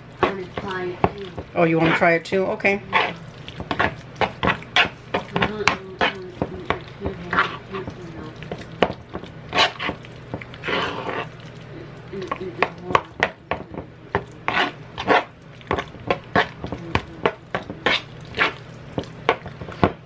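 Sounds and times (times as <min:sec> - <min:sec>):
fork clicking and scraping bowl: 0:02.9 - 0:11.6, 0:12.2 - 0:19.9.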